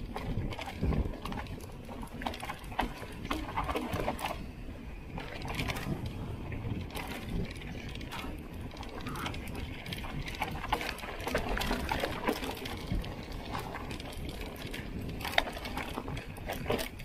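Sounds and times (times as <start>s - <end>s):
bike rattling: 0.0s - 17.0s.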